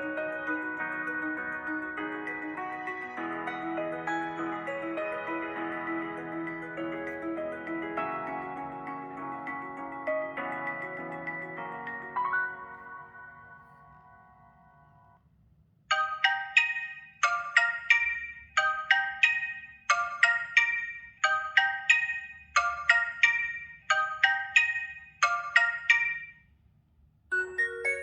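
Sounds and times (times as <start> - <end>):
phone ringtone bright notes: 0.0 - 14.4, 15.9 - 26.4.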